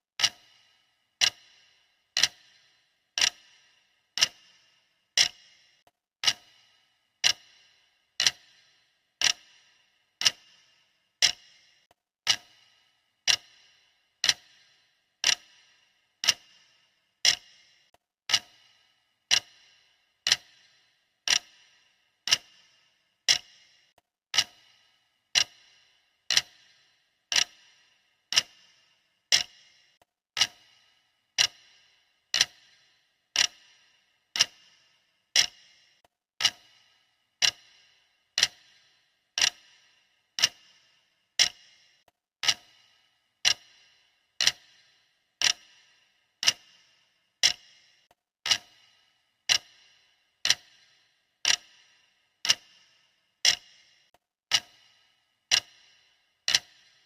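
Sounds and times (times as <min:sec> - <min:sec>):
clock ticking: 0:00.2 - 0:57.0.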